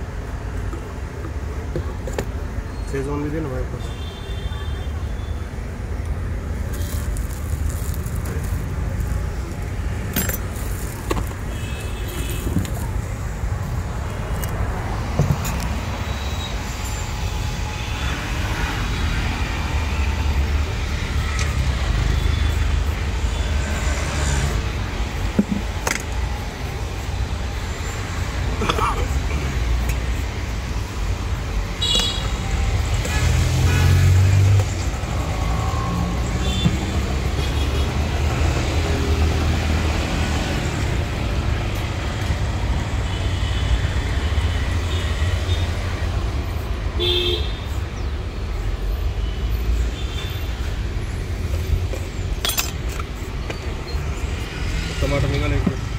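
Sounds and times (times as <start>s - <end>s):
rumble of passing vehicles: 0.0s - 55.9s.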